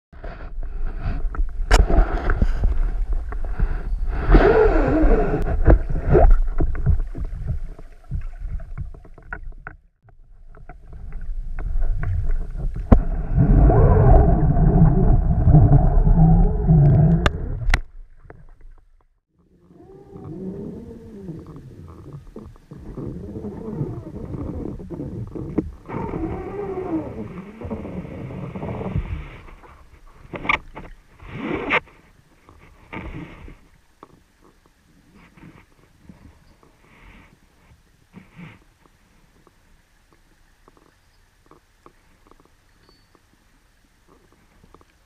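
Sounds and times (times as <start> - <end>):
muffled underwater rumbling: 0.1 - 37.3
water sloshing and bubbling: 0.2 - 45.0.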